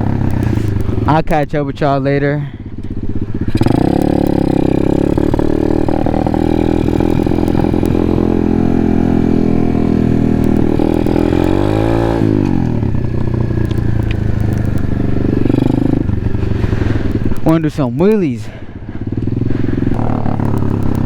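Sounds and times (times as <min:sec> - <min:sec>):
pit bike engine running: 0:00.0 - 0:21.0.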